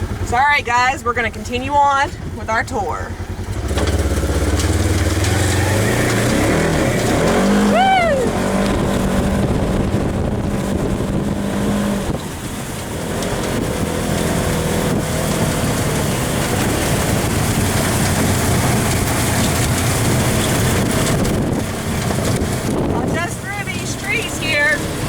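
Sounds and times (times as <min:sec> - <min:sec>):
rattling: 0:00.0 - 0:25.0
vehicle engine running: 0:00.0 - 0:25.0
wind noise: 0:04.2 - 0:25.0.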